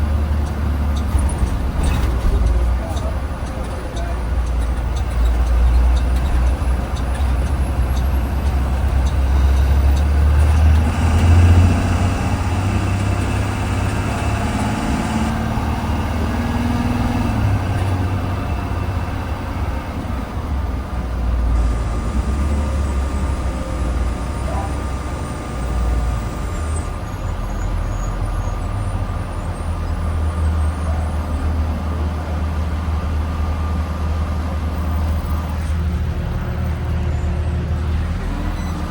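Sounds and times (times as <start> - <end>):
bus engine rumble: 0.0 - 38.9
road noise: 0.0 - 38.9.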